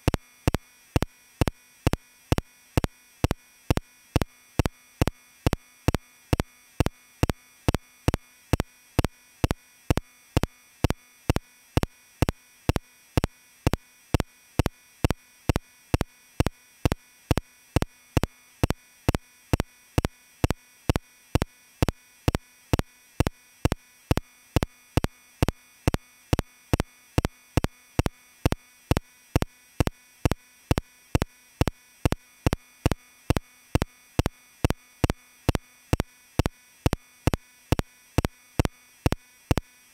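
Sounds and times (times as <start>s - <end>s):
faint background hum: 0.0s - 39.9s.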